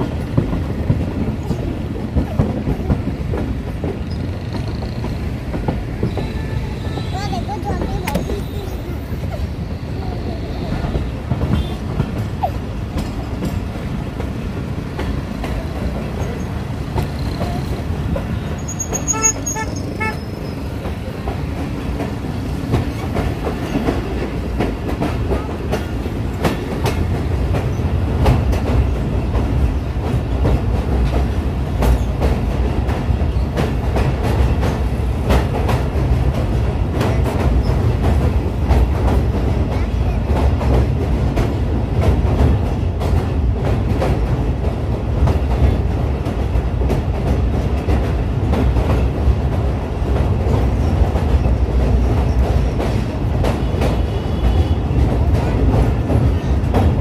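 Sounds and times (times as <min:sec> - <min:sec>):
wheels clicking over rail joints: 0:00.0 - 0:10.0, 0:10.6 - 0:57.0
train rumbling: 0:00.0 - 0:57.0.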